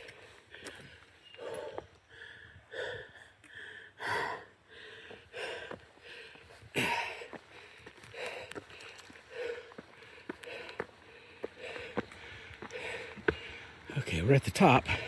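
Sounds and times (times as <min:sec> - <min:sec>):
person breathing hard: 0:00.0 - 0:13.8.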